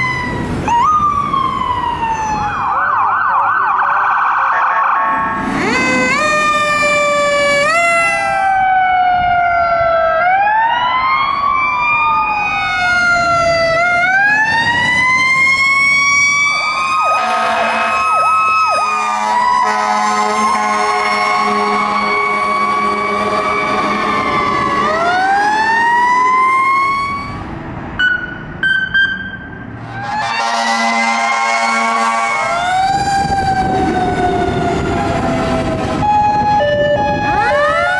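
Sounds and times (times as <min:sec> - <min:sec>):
short siren blasts: 0:00.0 - 0:37.9
sirens wailing: 0:00.0 - 0:37.9.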